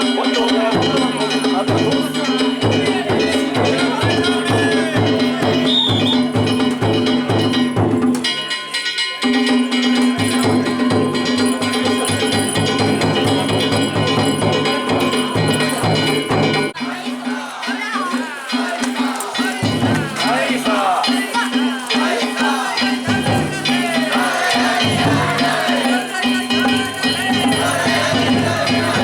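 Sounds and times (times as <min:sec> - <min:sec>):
festival drums: 0:00.0 - 0:29.0.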